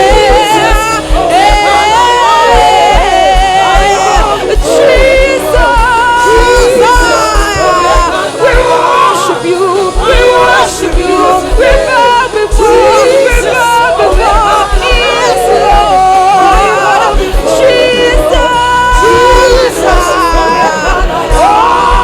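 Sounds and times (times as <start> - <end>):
band accompaniment: 0.0 - 22.0
low drum beat: 0.0 - 22.0
voices singing gospel: 0.0 - 22.0.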